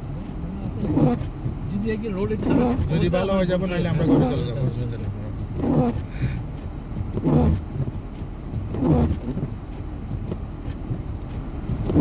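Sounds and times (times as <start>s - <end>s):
engine and road rumble: 0.0s - 12.0s
windshield wipers sweeping: 0.0s - 12.0s.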